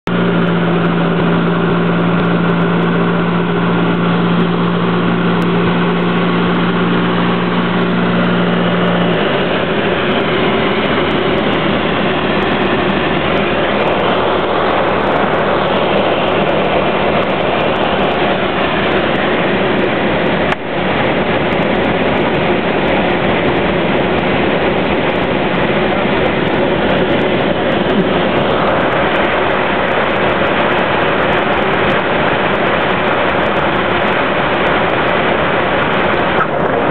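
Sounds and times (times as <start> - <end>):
propeller engine droning: 0.0 - 36.9
loud rushing air: 0.1 - 36.9.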